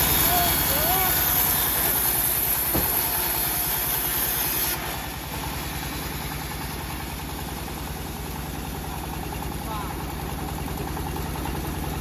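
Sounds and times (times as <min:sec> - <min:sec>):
sawmill engine idling: 0:00.0 - 0:12.0.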